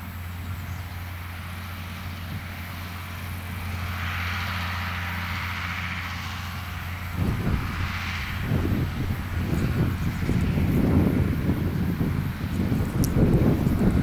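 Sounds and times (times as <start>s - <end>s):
diesel tractor engine running: 0.0s - 14.0s.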